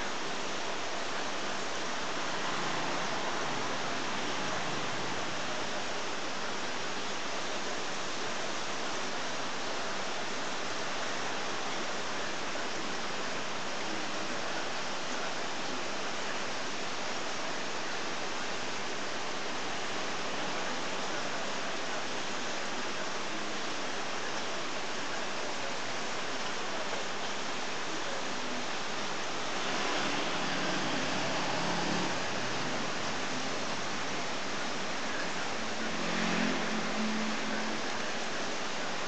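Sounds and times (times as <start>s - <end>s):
aquarium water circulation rushing: 0.0s - 39.0s.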